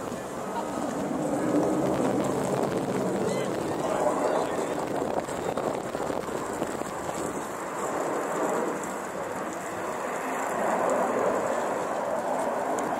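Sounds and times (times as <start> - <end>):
jet engines roaring overhead: 0.0 - 12.9.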